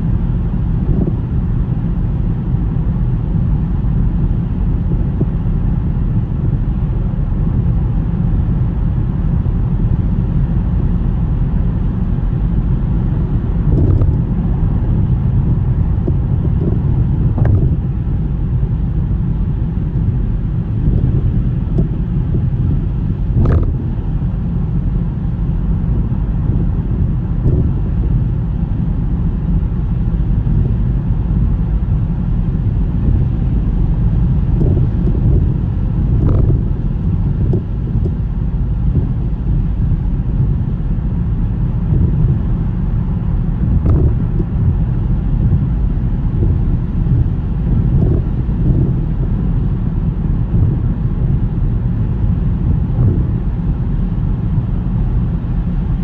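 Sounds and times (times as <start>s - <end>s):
road and wind noise rumble: 0.0s - 56.0s.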